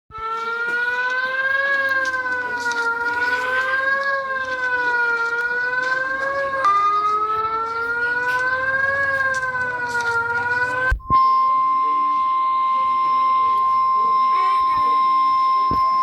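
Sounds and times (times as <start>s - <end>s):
emergency alert alarm tone: 0.1s - 16.0s.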